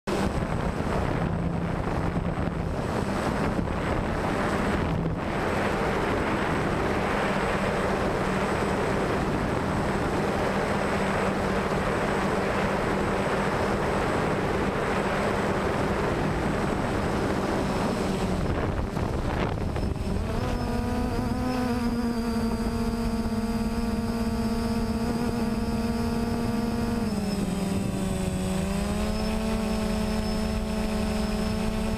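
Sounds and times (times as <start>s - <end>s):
drone propellers buzzing: 0.1s - 31.9s
wind noise: 0.1s - 31.9s.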